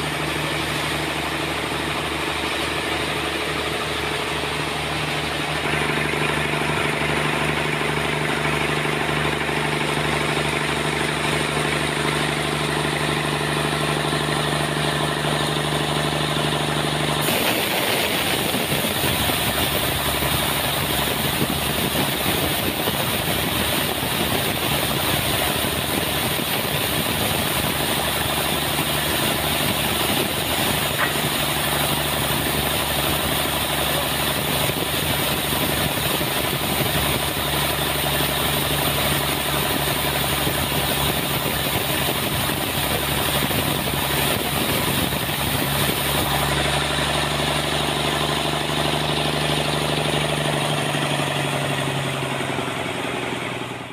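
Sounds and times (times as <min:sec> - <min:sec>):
rough noisy machinery: 0:00.0 - 0:53.9
sawmill machinery hum: 0:00.0 - 0:53.9.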